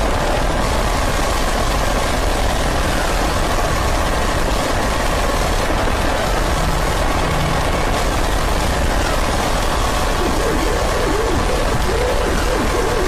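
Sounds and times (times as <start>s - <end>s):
loud rumbling noise drone: 0.0s - 13.0s.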